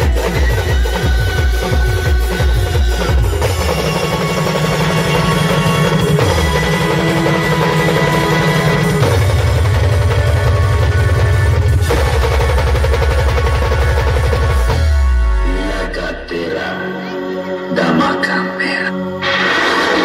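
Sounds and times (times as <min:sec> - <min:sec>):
drums: 0:00.0 - 0:16.0, 0:19.2 - 0:20.0
loud band music over speakers: 0:00.0 - 0:16.3.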